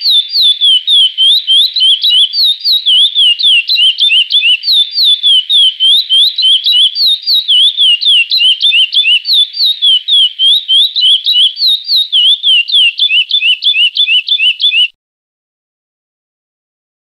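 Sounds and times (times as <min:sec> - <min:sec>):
finch singing whistled notes: 0:00.0 - 0:15.0.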